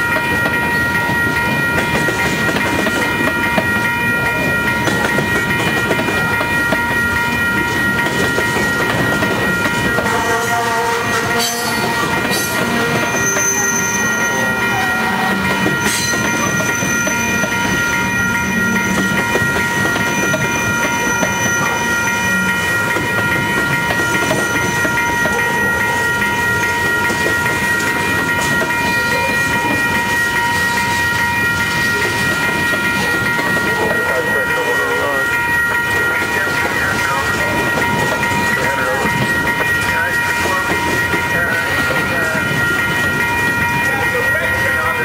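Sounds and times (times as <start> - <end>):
high-pitched ringing: 0.0 - 45.0.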